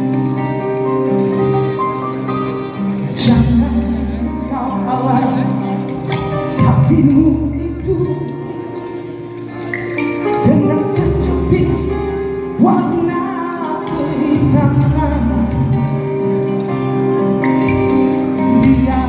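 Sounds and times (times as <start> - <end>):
live band pop music: 0.0 - 19.0.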